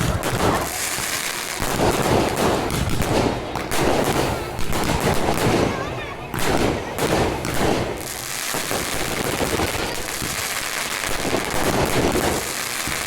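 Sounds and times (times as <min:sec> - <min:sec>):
firecracker crackle: 0:00.0 - 0:13.0.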